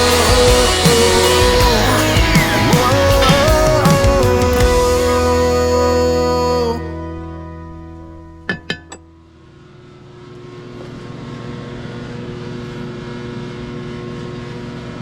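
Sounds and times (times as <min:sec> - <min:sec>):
heaters droning: 0:00.0 - 0:15.0.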